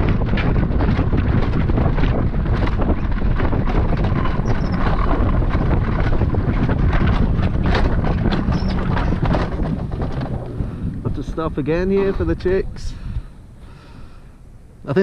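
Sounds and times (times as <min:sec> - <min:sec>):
sled wheels rumbling on metal rails: 0:00.0 - 0:15.0
wind buffeting microphone: 0:00.0 - 0:15.0.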